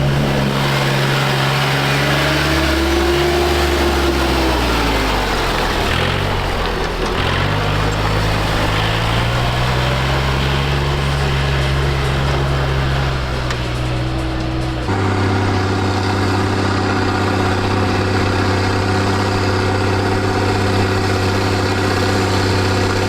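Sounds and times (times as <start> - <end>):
tractor engines running: 0.0 - 23.0.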